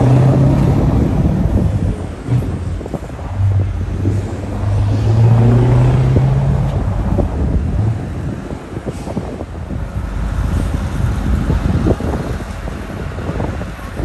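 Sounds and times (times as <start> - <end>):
truck diesel engine pulling away: 0.0 - 14.0.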